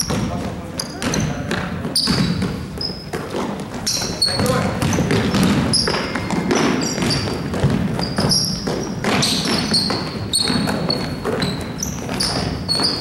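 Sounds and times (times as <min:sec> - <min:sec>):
basketball bouncing: 0:00.0 - 0:13.0
sneakers squeaking: 0:00.0 - 0:13.0.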